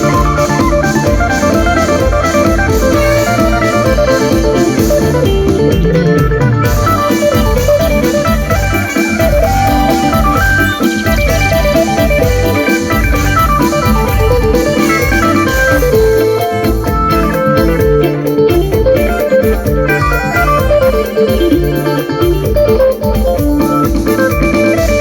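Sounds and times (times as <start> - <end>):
bass: 0.0 - 25.0
electronic organ: 0.0 - 25.0
plucked electric lute melody: 0.0 - 25.0
steady drum beat: 0.0 - 25.0.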